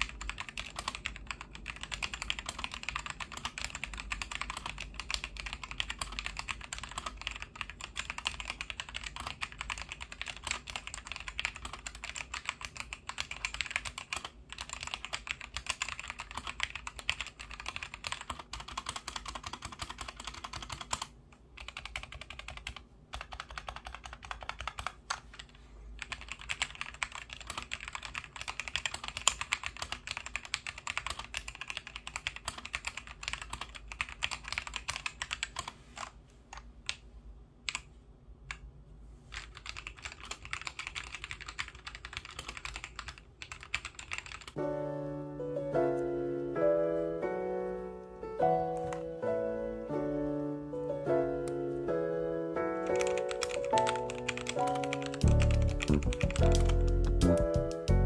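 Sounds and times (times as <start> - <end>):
mechanical keyboard typing: 0.0 - 37.0, 37.6 - 37.9, 39.3 - 44.6, 48.7 - 49.1, 52.8 - 58.0.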